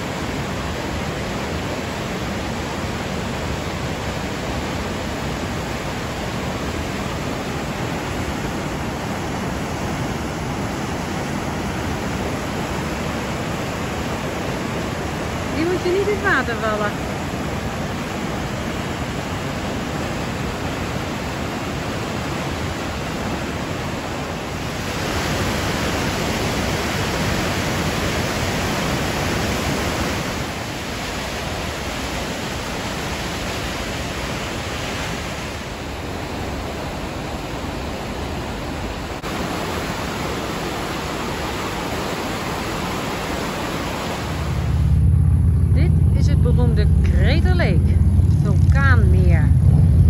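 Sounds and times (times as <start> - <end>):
river whitewater rushing: 0.0 - 46.0.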